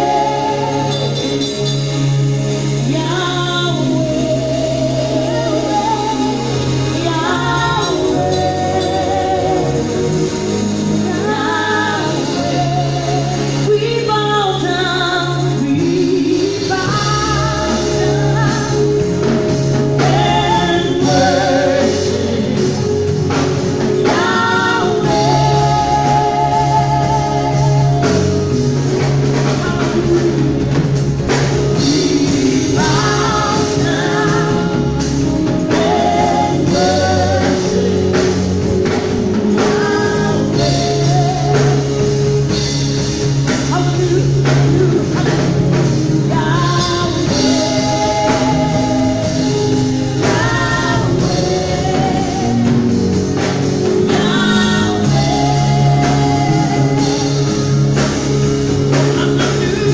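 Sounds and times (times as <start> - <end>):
band with guitars and drums: 0.0 - 59.9
woman singing into a microphone: 2.8 - 19.2, 19.9 - 23.1, 23.9 - 28.6, 31.8 - 42.4, 43.6 - 57.9.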